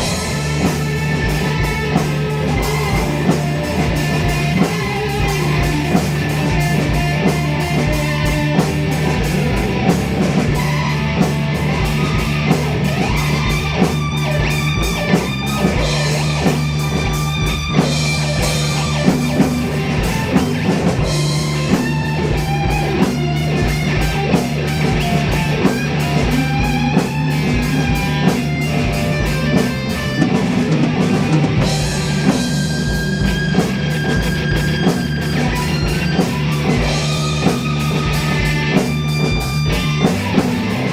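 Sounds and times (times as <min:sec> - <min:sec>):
drum kit beat: 0:00.0 - 0:40.9
electric guitar playing: 0:00.0 - 0:40.9.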